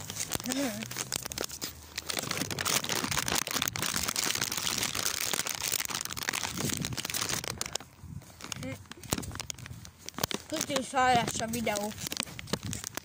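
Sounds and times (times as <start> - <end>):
crinkling and rustling: 0.0 - 13.0.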